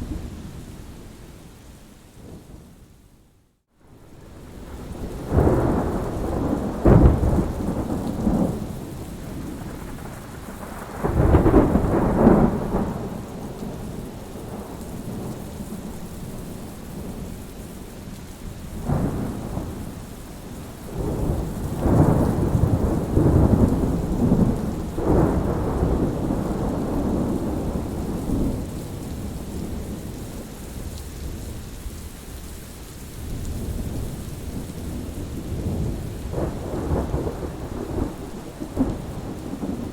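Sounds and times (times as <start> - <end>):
steady rain: 0.0 - 39.9
thunder rumbling: 4.0 - 17.3, 18.8 - 31.4, 33.3 - 39.9.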